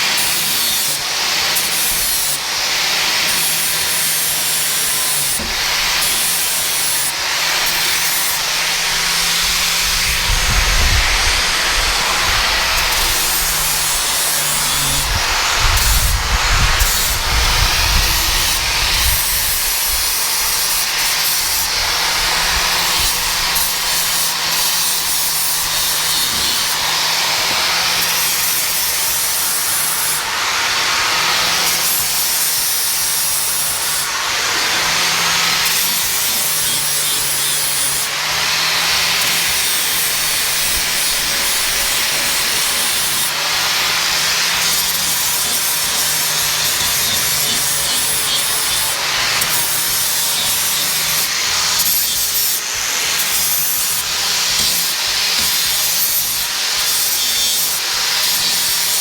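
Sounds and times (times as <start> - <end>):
angle grinder on metal: 0.0 - 59.0.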